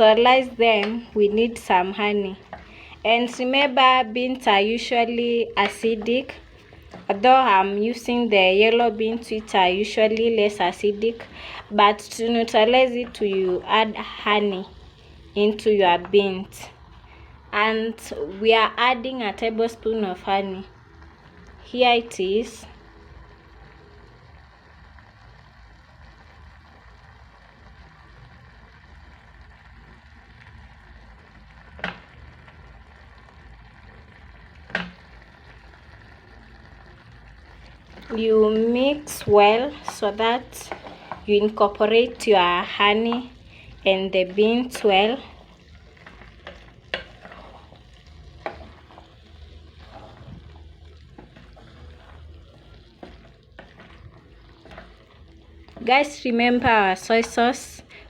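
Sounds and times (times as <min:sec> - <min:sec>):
pot of beans simmering: 0:00.0 - 0:58.0.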